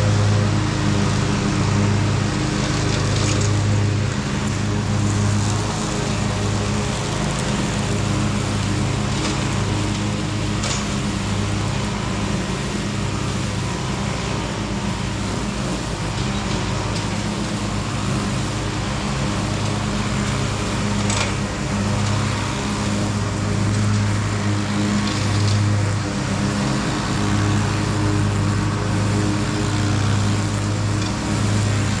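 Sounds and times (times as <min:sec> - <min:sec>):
lawn mower engine running: 0:00.0 - 0:32.0.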